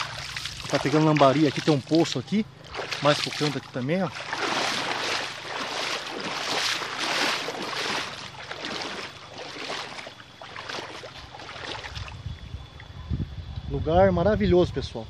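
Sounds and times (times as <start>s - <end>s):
river water splashing: 0.0s - 12.9s.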